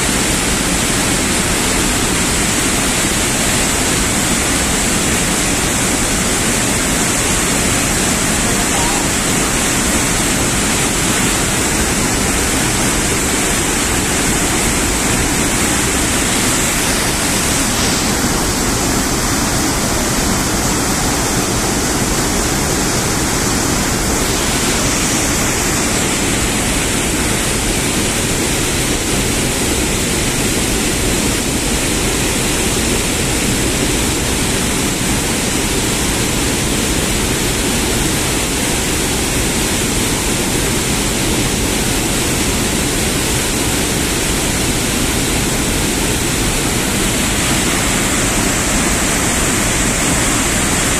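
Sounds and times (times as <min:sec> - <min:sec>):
water rushing down spillway: 0:00.0 - 0:50.9.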